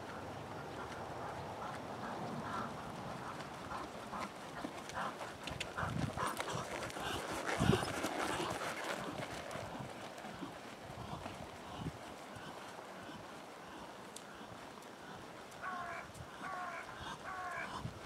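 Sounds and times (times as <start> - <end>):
horse hoofbeats: 0.1 - 16.8.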